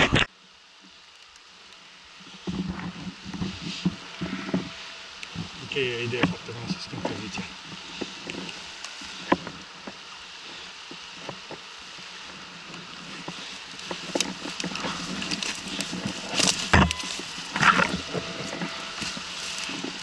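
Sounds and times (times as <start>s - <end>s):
river rushing: 3.1s - 20.0s.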